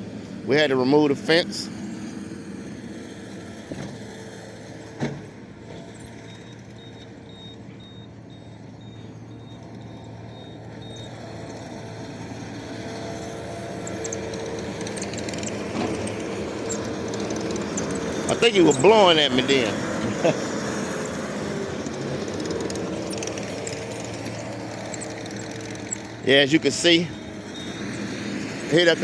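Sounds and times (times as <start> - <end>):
skid steer engine running: 0.0 - 29.0.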